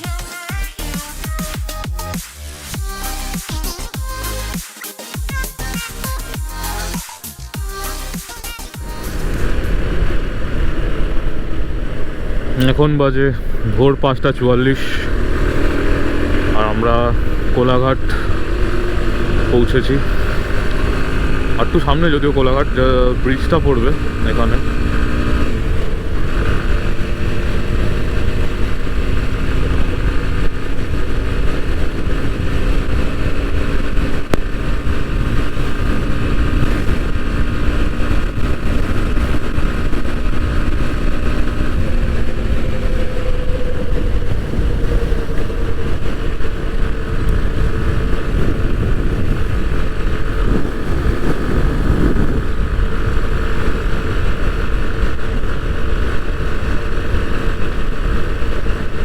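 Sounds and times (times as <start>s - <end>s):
motorcycle engine at speed: 5.2s - 59.0s
wind rush on microphone: 8.8s - 59.0s.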